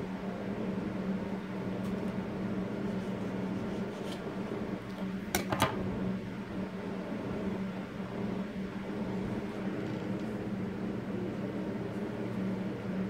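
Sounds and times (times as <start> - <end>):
air conditioner hum: 0.0 - 13.0.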